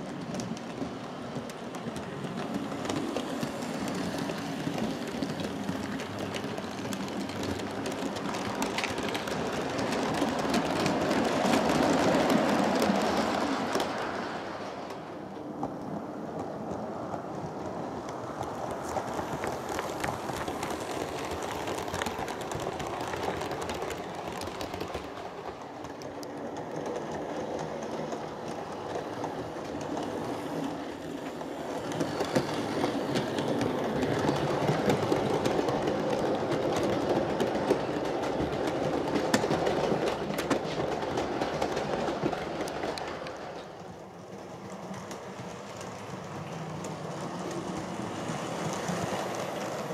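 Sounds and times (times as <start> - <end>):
model train rumbling on track: 0.0 - 49.9.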